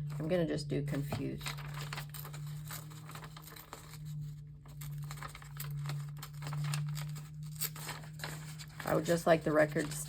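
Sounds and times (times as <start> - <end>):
steady low hum: 0.0 - 10.0
paper rustling and tearing: 0.9 - 10.0.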